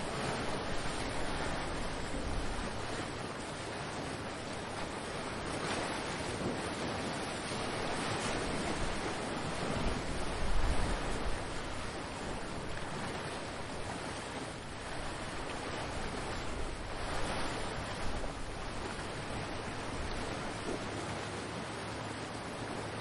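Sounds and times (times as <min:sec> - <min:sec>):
ocean waves breaking: 0:00.0 - 0:23.0.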